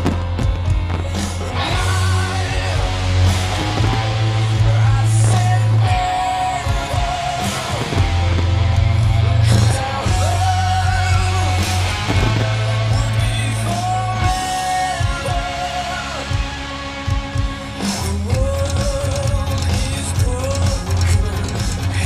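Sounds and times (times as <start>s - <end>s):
rock music with heavy bass: 0.0s - 22.0s.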